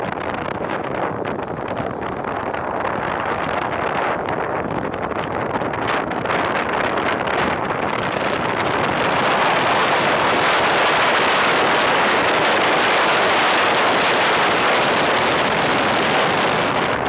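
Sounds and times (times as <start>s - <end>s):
road noise: 0.0s - 17.0s
wind rushing over microphone: 0.0s - 17.0s.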